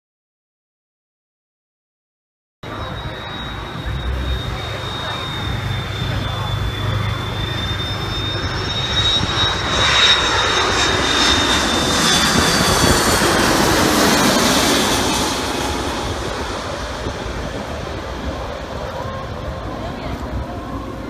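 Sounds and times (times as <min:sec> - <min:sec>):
jet engines passing overhead: 0:02.6 - 0:21.0.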